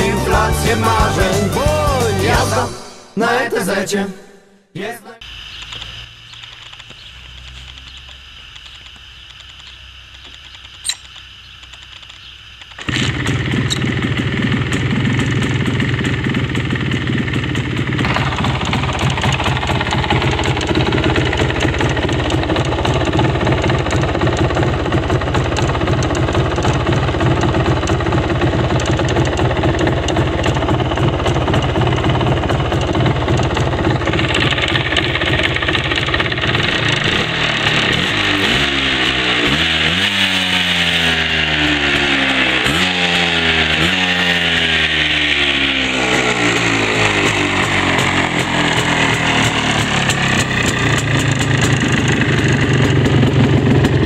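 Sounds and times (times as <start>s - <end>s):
two-stroke engine starting and running: 5.3s - 54.0s.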